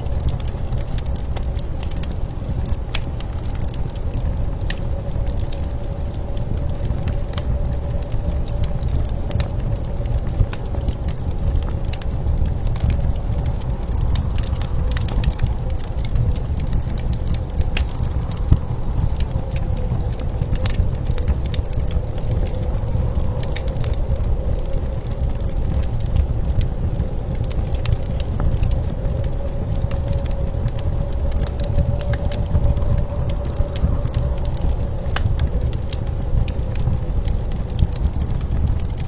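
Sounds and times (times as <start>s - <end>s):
blizzard wind rumble: 0.0s - 39.0s
wood fire crackling and popping: 0.0s - 39.0s.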